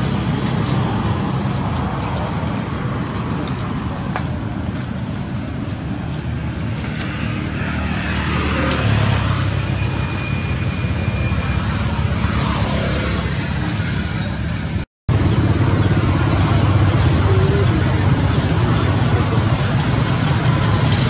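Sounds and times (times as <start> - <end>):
passing traffic engine rumble: 0.0 - 21.0.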